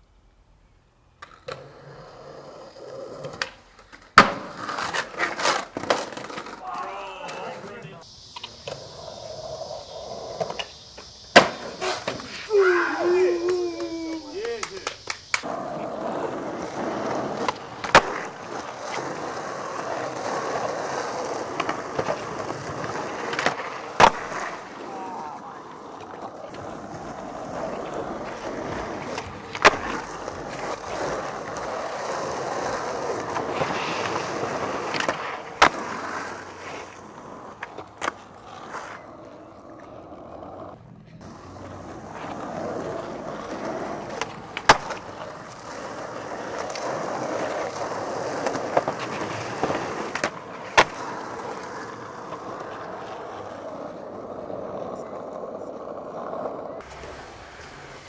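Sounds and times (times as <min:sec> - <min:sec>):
skateboard wheels rolling on asphalt: 0:00.0 - 0:58.0
skateboard clacking on ground: 0:01.1 - 0:58.0.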